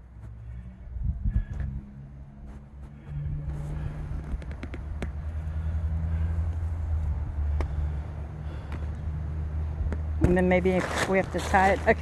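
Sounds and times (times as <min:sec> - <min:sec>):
low engine drone: 0:00.0 - 0:10.2.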